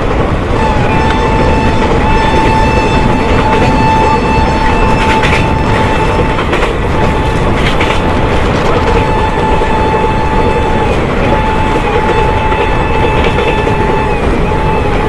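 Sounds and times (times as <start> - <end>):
rush of wheels on rail: 0.0 - 15.0
wheels clicking over rail joints: 0.0 - 15.0.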